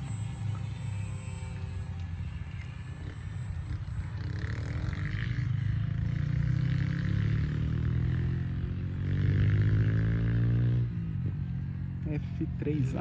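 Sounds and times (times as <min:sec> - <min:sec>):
model airplane propeller droning: 0:00.0 - 0:08.9, 0:10.9 - 0:13.0.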